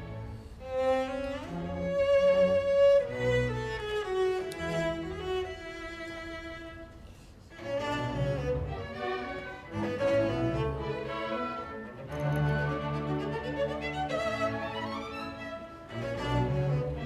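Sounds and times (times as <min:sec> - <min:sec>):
cello and string orchestra: 0:00.0 - 0:17.0.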